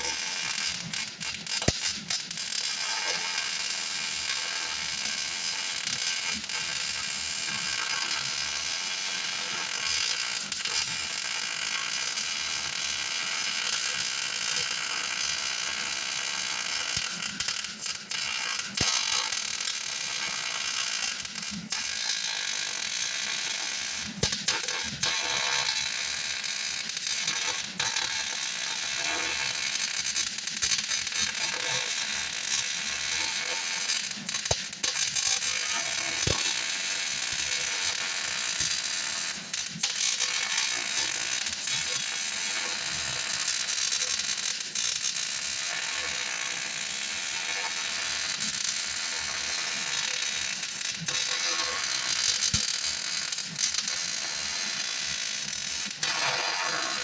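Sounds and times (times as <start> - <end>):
welding arc crackling: 0.1 - 57.0.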